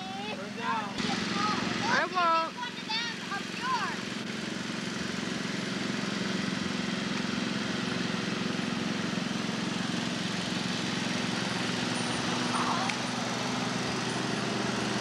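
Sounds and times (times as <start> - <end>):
small engine droning: 0.0 - 15.0.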